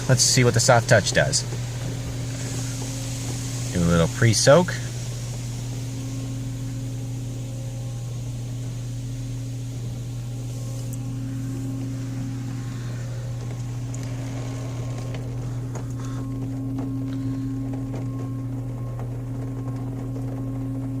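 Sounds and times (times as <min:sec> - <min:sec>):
faint spray hissing: 0:00.0 - 0:17.8
car wash equipment humming: 0:00.0 - 0:21.0.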